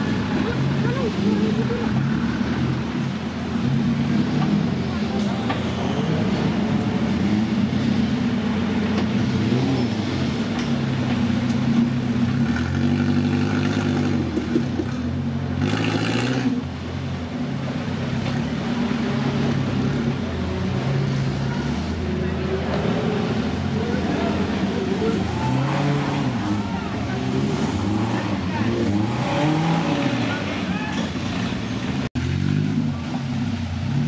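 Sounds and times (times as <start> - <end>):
off-road engine revving: 0.0 - 34.0.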